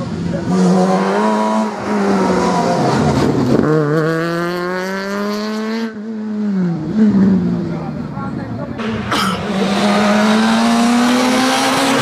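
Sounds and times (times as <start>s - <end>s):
rally car engine revving hard: 0.2s - 7.7s, 8.8s - 12.0s.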